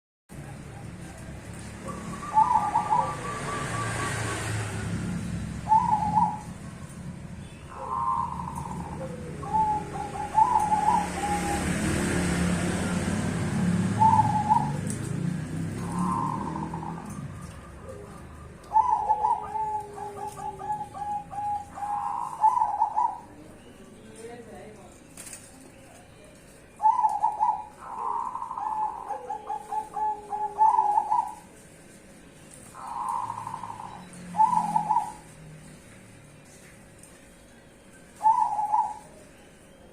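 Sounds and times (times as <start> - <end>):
doves cooing: 0.3 - 24.2, 25.1 - 39.9.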